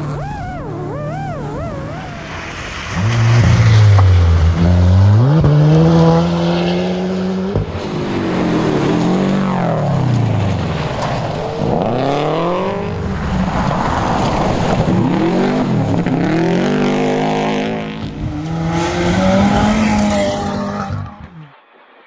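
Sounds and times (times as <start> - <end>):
rally car engine revving: 0.0 - 21.6.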